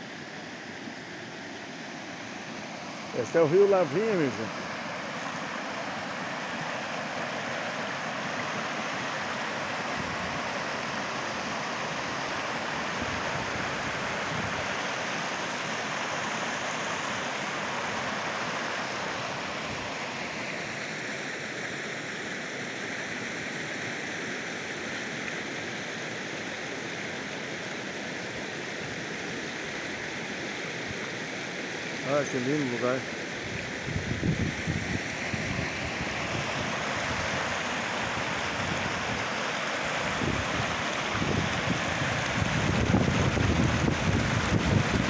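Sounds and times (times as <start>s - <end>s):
river water rushing over rocks: 0.0s - 45.0s.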